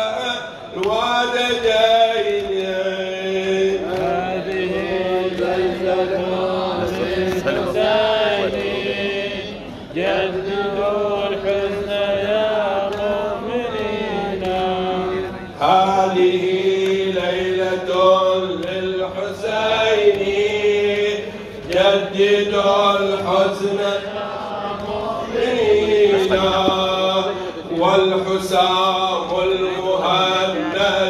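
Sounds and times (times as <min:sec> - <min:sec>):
men chanting into a microphone: 0:00.0 - 0:31.0.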